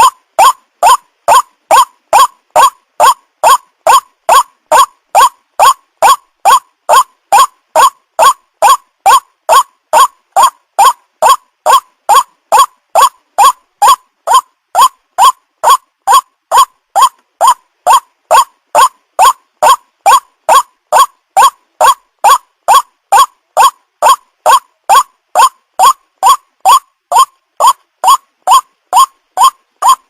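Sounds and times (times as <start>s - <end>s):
waterhen calling: 0.0s - 30.0s.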